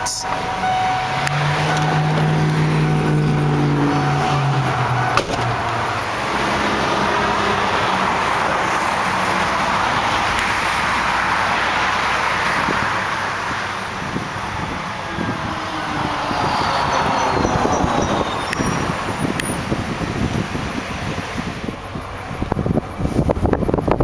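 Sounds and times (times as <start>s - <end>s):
highway traffic: 0.0s - 24.0s.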